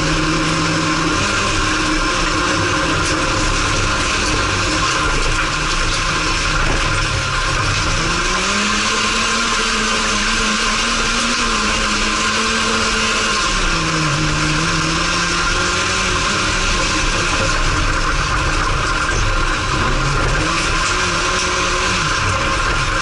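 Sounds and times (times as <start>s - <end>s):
constant rushing noise: 0.0s - 23.0s
race car engine revving: 0.0s - 23.0s.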